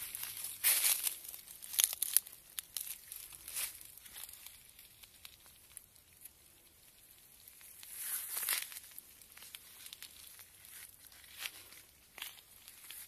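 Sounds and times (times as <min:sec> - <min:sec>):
leaves rustling and crinkling: 0:00.0 - 0:13.0.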